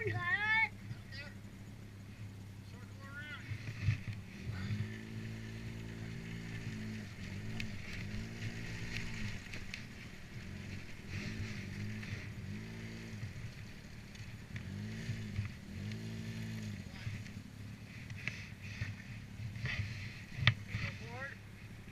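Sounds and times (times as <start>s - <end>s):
atv engine revving: 0.0s - 21.9s.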